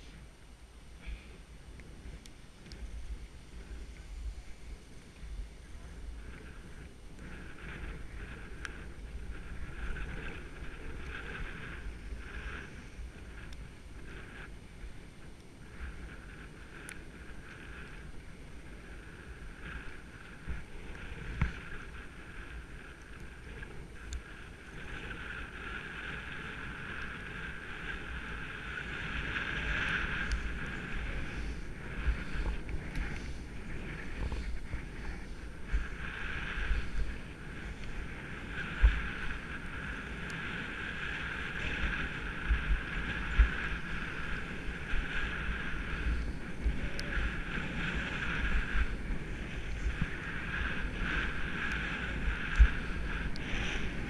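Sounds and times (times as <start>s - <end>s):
wind buffeting microphone: 0.0s - 54.0s
skis hissing over snow: 1.0s - 54.0s.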